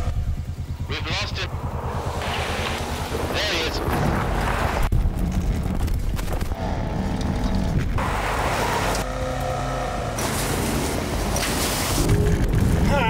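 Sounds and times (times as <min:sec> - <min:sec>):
suv engine rumbling: 0:00.0 - 0:13.0.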